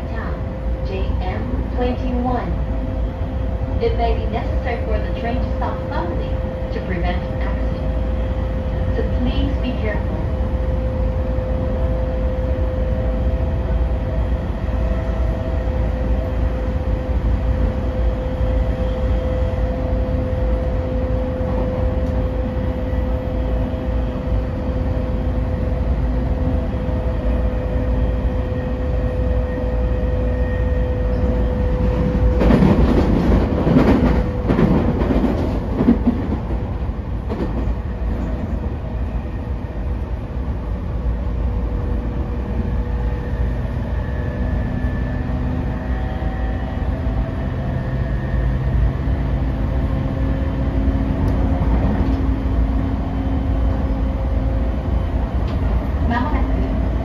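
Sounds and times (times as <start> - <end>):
train motor hum: 0.0 - 57.0
train wheels rumbling on rail: 0.0 - 57.0.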